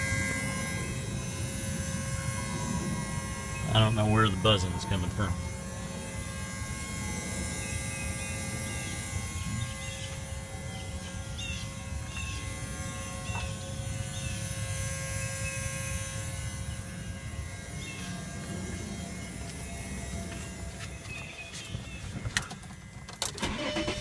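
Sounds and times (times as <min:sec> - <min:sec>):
electrical relay buzz: 0:00.0 - 0:24.0.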